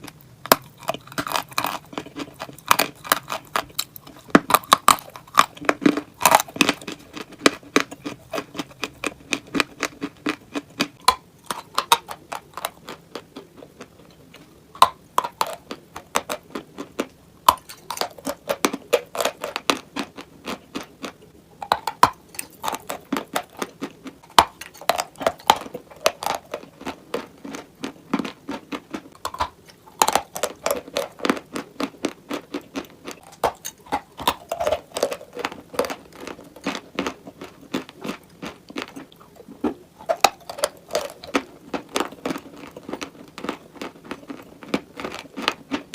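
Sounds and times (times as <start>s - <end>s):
person biting and chewing crunchy pieces: 0.0s - 45.9s.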